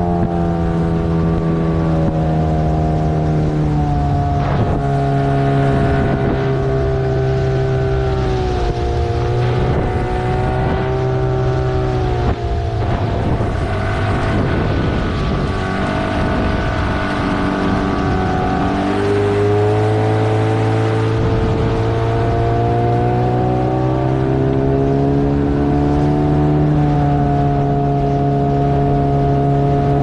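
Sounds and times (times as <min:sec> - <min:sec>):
water and air rushing: 0:00.0 - 0:27.1
outboard motor: 0:00.0 - 0:30.0.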